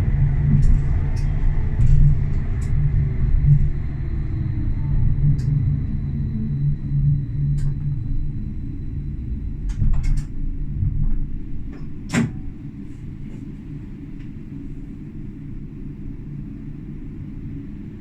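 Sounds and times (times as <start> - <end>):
tram rumbling on track: 0.0 - 18.0.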